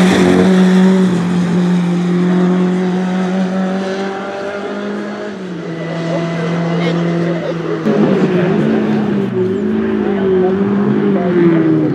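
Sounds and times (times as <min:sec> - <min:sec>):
rally car engine at high revs: 0:00.0 - 0:11.9.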